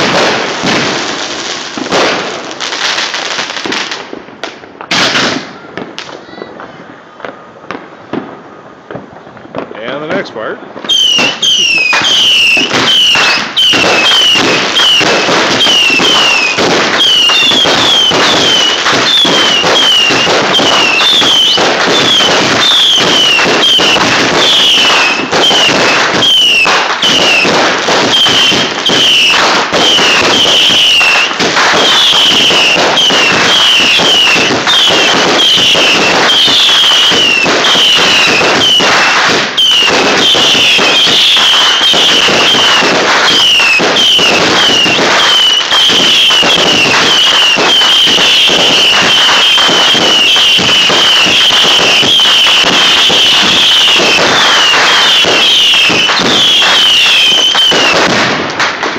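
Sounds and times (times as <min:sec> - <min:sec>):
fireworks cracks and bangs: 0:00.0 - 0:58.9
firework whistles dropping in pitch: 0:10.8 - 0:58.2.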